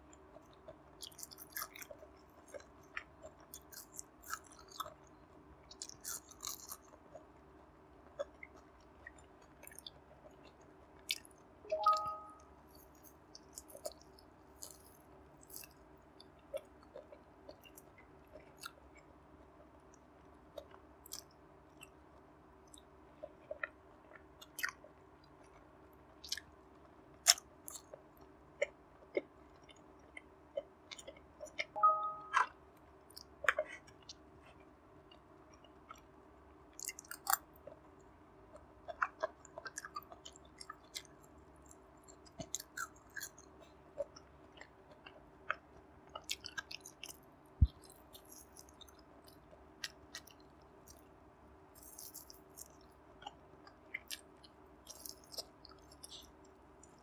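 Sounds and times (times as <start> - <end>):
chewing and biting food: 0.1 - 7.3, 8.2 - 11.4, 12.7 - 19.1, 20.5 - 22.0, 22.6 - 26.6, 27.2 - 36.1, 36.7 - 51.2, 51.8 - 57.0.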